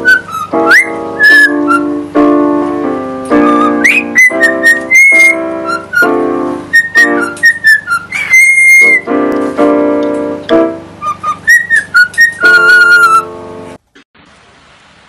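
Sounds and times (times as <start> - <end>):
keyboard chords: 0.0 - 13.8
whistled melody: 0.0 - 13.8.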